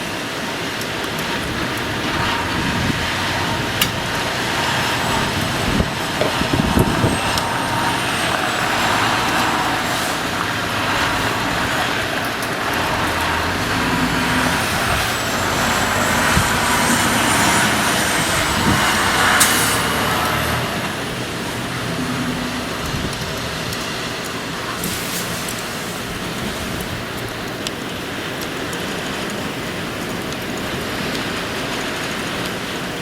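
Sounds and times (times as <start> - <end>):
faint high whine: 0.0 - 26.4
gusting wind on microphone: 0.0 - 33.0.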